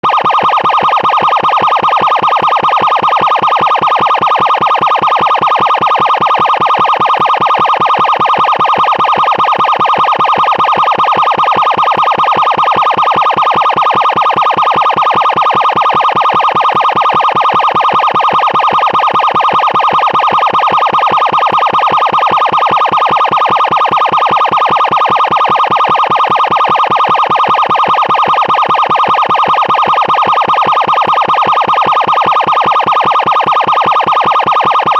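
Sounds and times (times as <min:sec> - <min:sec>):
emergency siren with pulsing flutter: 0:00.0 - 0:34.9.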